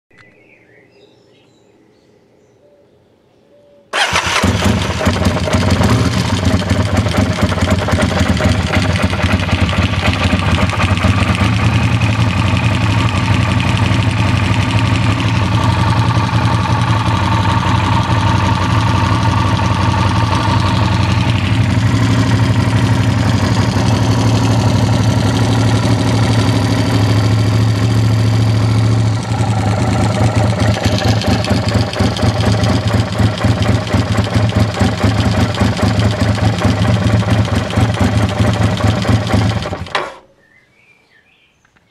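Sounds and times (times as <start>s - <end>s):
motorcycle engine idling: 4.0s - 40.2s.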